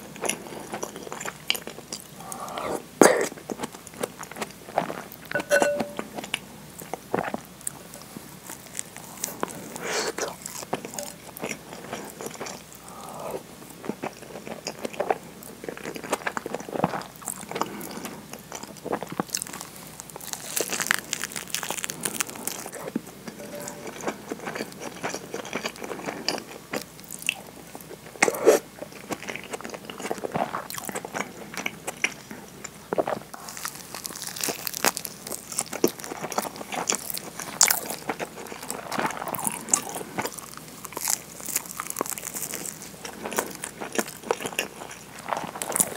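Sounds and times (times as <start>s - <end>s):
chewing and biting food: 0.0s - 45.9s.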